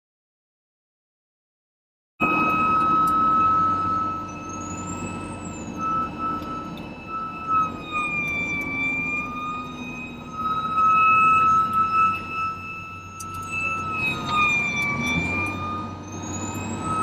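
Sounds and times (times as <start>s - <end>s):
fire engine siren: 2.2s - 17.0s
truck engine rumble: 2.2s - 17.0s.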